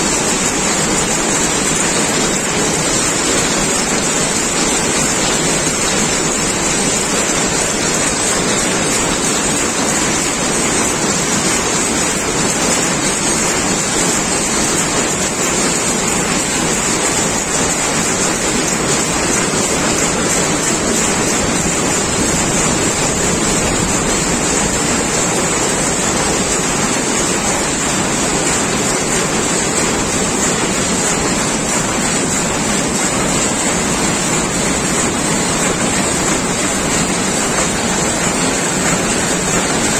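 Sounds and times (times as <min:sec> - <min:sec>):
weaving loom running: 0:00.0 - 0:39.9.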